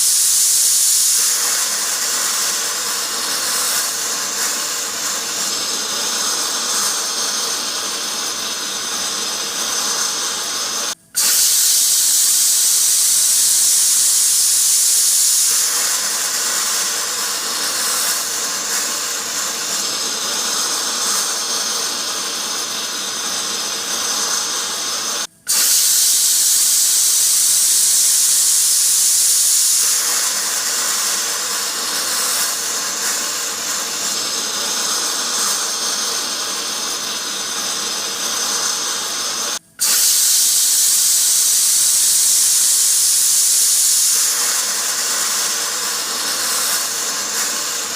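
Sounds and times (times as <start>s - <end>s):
pressure cooker steam hissing: 0.0s - 47.9s.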